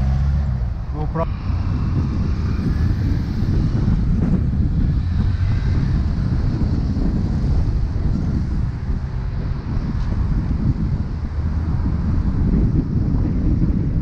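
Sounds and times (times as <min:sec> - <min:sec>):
road traffic: 0:00.0 - 0:14.0
wind buffeting microphone: 0:00.0 - 0:14.0.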